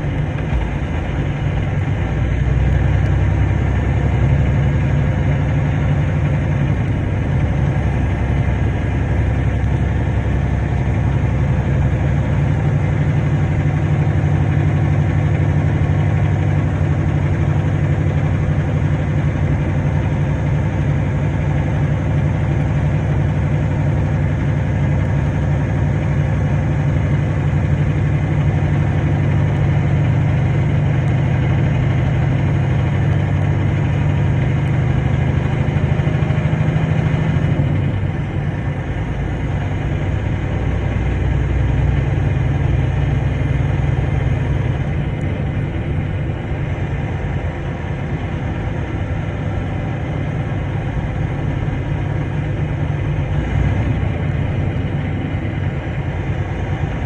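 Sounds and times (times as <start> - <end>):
tyre and road noise: 0.0 - 57.0
vehicle engine drone: 0.0 - 57.0.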